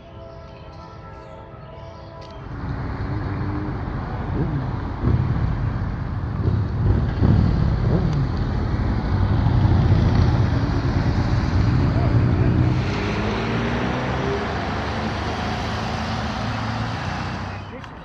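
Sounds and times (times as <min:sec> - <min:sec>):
road traffic noise: 0:00.0 - 0:18.0
vehicle engine running: 0:02.4 - 0:18.0.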